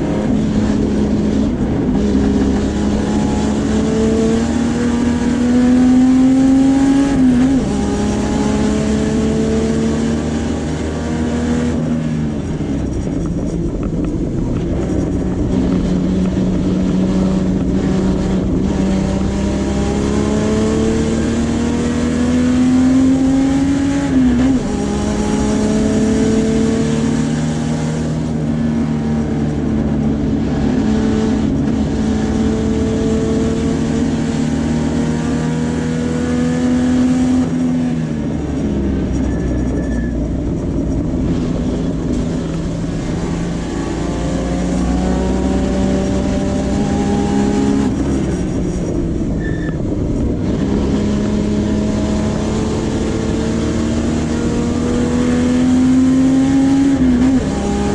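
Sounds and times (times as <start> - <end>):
race car engine at full throttle: 0.0 - 57.9.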